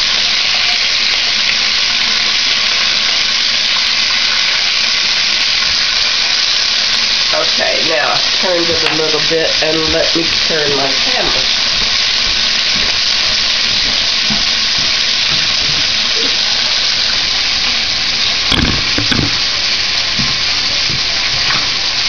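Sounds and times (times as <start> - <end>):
chicken sizzling in hot grease: 0.0 - 22.0.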